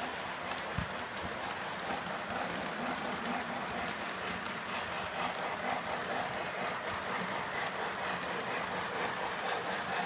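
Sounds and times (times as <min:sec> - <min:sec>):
model train running on track: 0:00.0 - 0:10.0.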